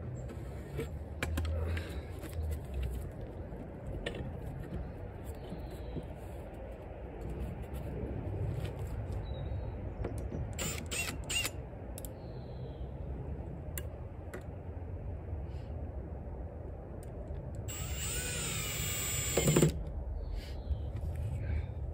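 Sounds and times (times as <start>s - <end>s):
steady low rumble: 0.0s - 21.9s.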